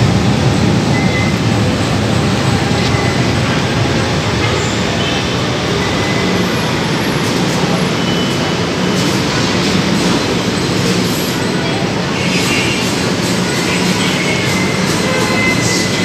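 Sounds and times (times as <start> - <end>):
train rail rumble: 0.0 - 16.0.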